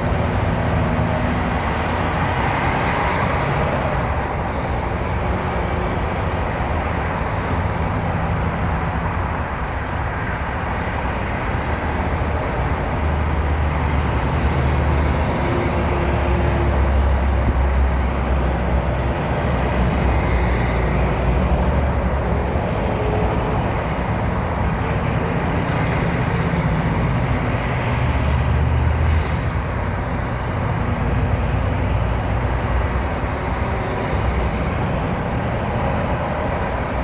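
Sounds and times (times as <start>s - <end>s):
road noise: 0.0s - 37.0s.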